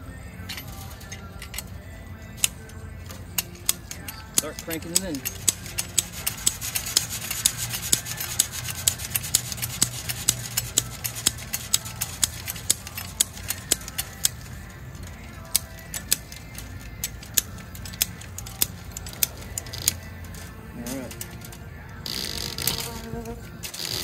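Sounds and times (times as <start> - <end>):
ratchet tensioner clicking: 0.4 - 24.0.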